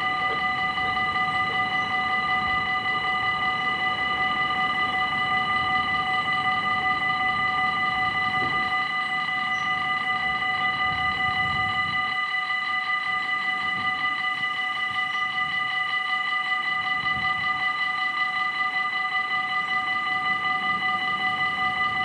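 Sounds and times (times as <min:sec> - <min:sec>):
level-crossing warning bell: 0:00.0 - 0:22.0.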